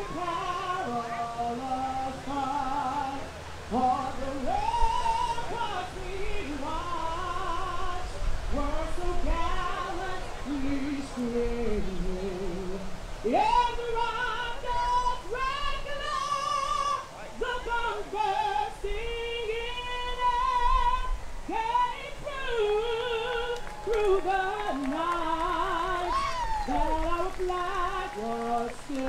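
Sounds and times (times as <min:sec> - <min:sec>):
woman singing with vibrato: 0:00.0 - 0:29.0.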